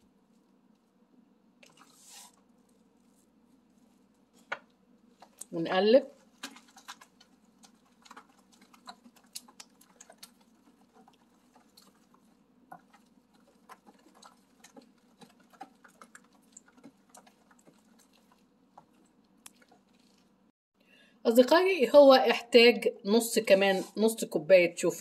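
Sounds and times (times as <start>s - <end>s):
faint steady hum: 0.0s - 23.7s.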